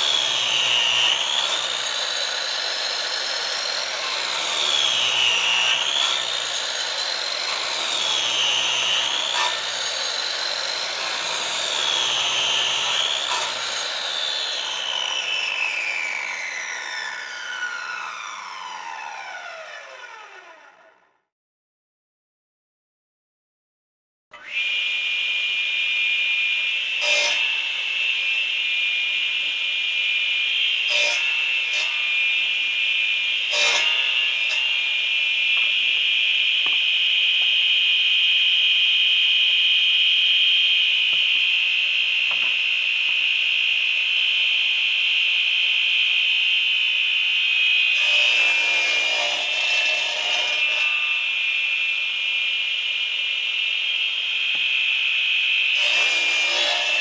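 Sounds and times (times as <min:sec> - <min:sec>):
electric saw whining: 0:00.0 - 0:21.2, 0:24.4 - 0:57.0.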